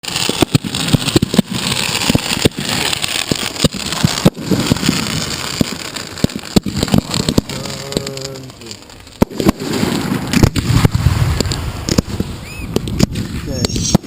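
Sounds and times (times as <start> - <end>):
fireworks crackling: 0.0 - 14.0
fireworks deep thuds: 0.0 - 14.0.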